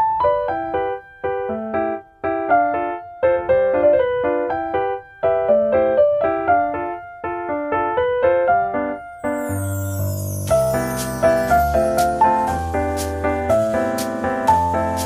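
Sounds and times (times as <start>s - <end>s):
keyboard playing light melody: 0.0s - 15.0s.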